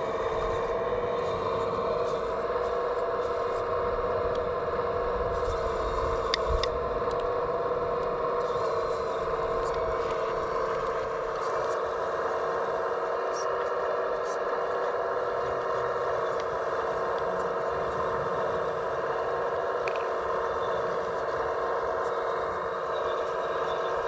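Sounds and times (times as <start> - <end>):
hydraulic pump electric whine: 0.0 - 24.0.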